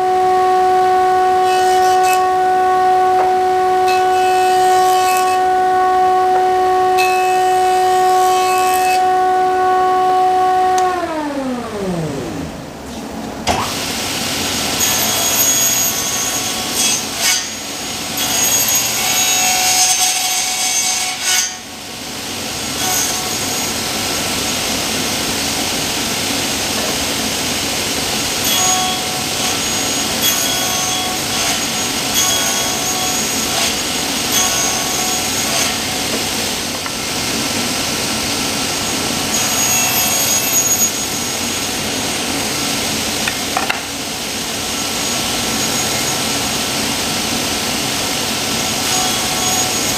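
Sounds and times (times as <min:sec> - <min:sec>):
table saw cutting wood: 0:00.0 - 0:12.8, 0:13.4 - 0:49.9.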